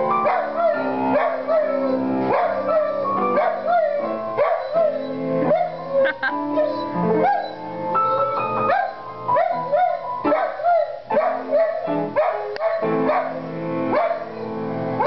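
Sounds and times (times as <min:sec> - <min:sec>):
piano notes: 0:00.0 - 0:15.0
dog howling: 0:00.2 - 0:13.3.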